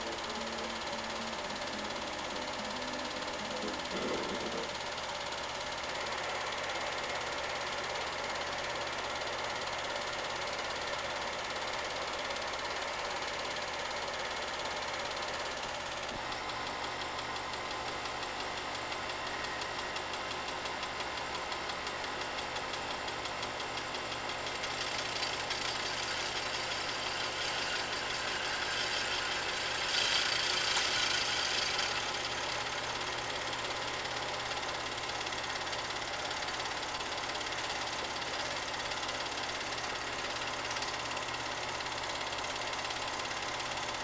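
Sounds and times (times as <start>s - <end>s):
film projector clatter: 0.0s - 44.0s
motor hum and hiss: 0.0s - 44.0s.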